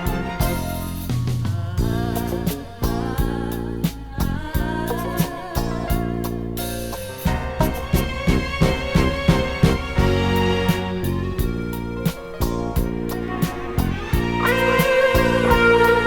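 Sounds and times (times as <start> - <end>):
instrumental karaoke backing track: 0.0 - 16.0.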